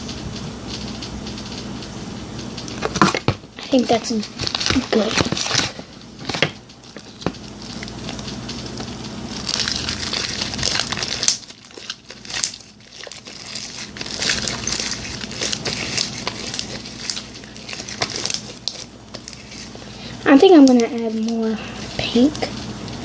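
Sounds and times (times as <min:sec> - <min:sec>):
slime being kneaded: 0:02.7 - 0:22.5.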